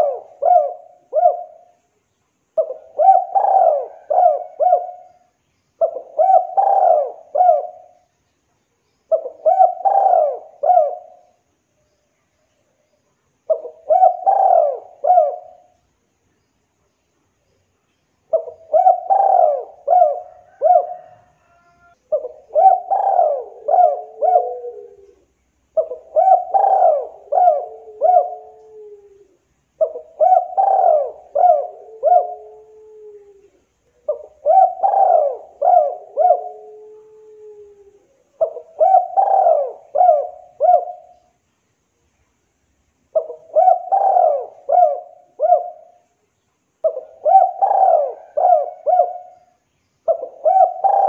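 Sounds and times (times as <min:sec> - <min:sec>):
dove cooing: 0:00.0 - 0:01.8, 0:02.6 - 0:08.1, 0:09.1 - 0:11.4, 0:13.5 - 0:15.8, 0:18.3 - 0:41.3, 0:43.1 - 0:46.0, 0:46.8 - 0:51.0.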